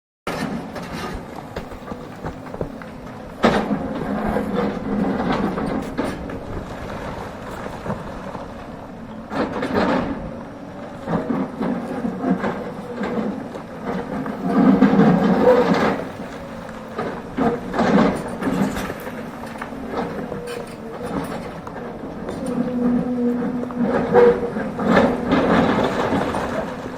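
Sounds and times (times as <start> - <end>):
excavator diesel engine working: 0.3 - 26.9.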